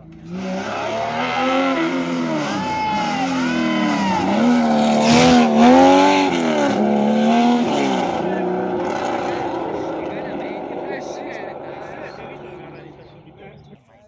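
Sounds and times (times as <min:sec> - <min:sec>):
rally car engine at full throttle: 0:00.0 - 0:13.8.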